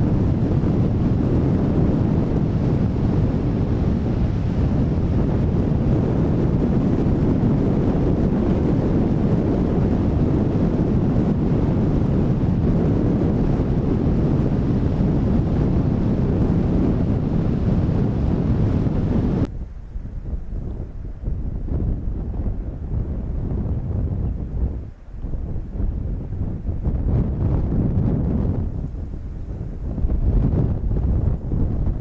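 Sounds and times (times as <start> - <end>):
rough sea: 0.0 - 32.0
strong wind buffeting microphone: 0.0 - 32.0.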